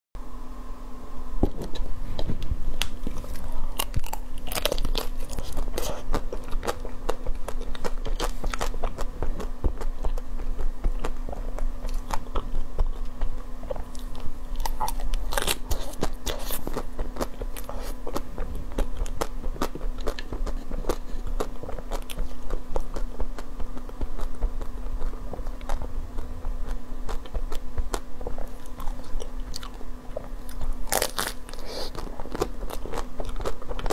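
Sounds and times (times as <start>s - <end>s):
chewing: 2.8s - 33.9s.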